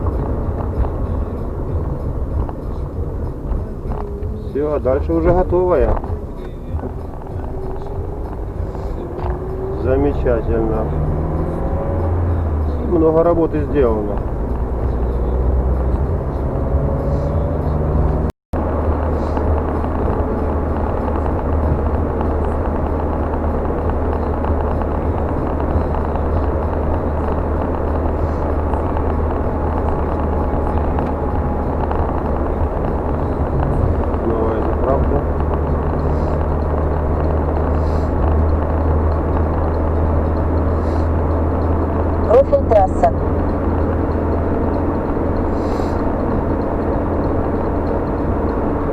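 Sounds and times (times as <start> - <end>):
car engine hum: 0.0 - 48.9
tyre and road noise: 0.0 - 48.9.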